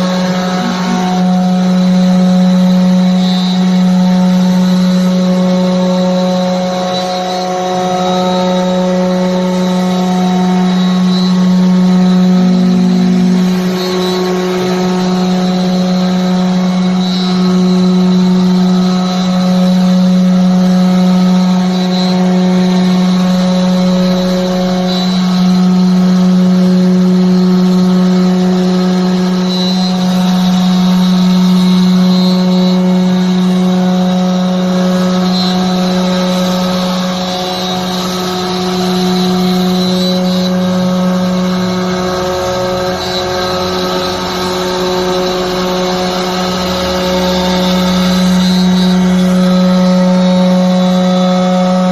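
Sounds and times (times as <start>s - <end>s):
cnc router spindle cutting wood: 0.0s - 51.9s.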